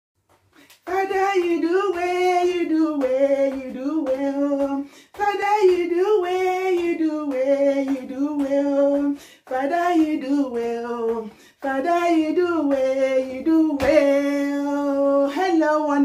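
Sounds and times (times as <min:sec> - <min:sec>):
woman singing unaccompanied: 0:00.8 - 0:16.0.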